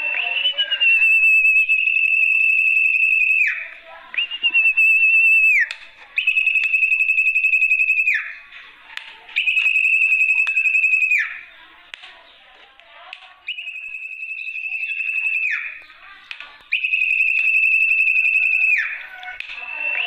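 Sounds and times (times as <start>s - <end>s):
trilled bird lure whistles: 0.0s - 8.4s, 9.4s - 11.4s, 13.4s - 15.9s, 16.7s - 20.0s.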